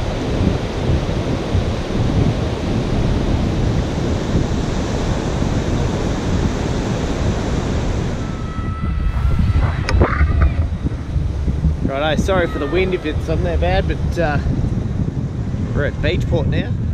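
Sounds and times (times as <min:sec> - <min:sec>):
surf breaking on beach: 0:00.0 - 0:16.2
wind buffeting microphone: 0:00.0 - 0:16.9.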